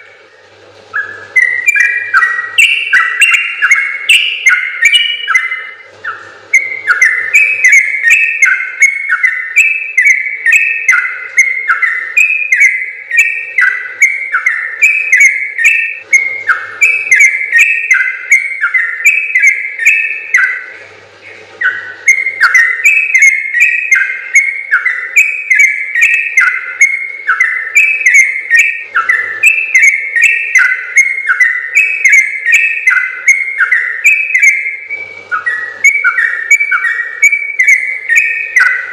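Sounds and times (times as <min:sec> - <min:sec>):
bulbul singing whistled notes: 0:00.0 - 0:38.9.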